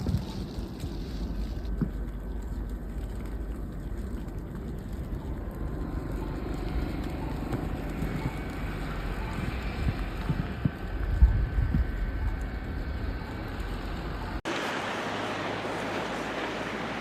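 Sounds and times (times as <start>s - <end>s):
wind noise on microphone: 0.0s - 14.4s
vehicle rumbling on snowy road: 0.0s - 17.0s.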